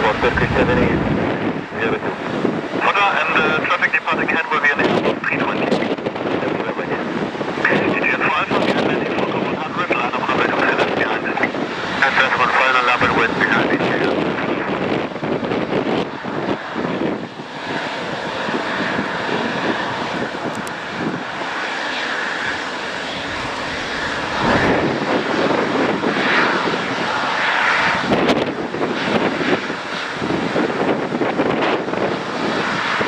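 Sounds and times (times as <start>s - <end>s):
jet airliner engines passing: 0.0s - 33.0s.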